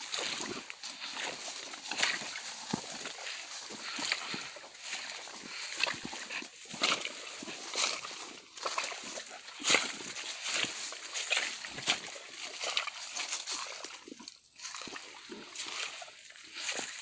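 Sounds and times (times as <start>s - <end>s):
footsteps on leaves and grass: 0.0s - 17.0s.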